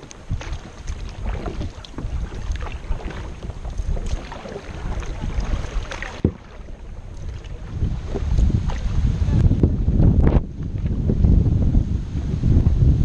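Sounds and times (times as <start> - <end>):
water splashing against kayak hull: 0.0 - 12.8
wind rumbling on microphone: 0.0 - 13.0.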